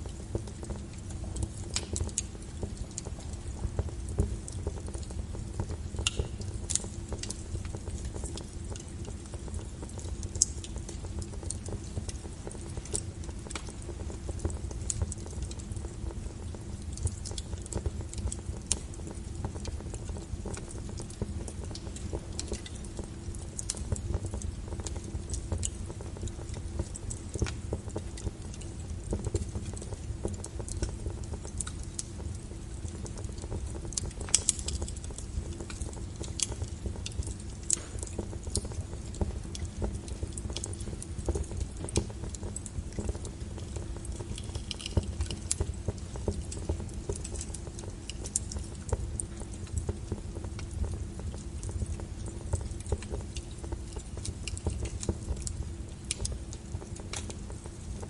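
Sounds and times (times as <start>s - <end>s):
log fire crackling: 0.0s - 58.0s.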